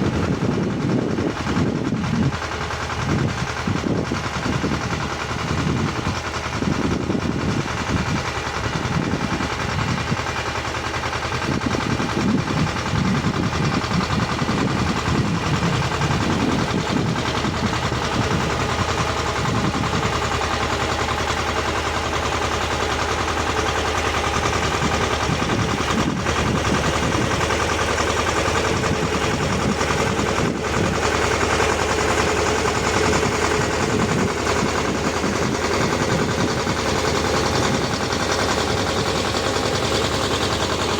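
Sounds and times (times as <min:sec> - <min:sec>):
rotary tiller engine running: 0:00.0 - 0:40.9.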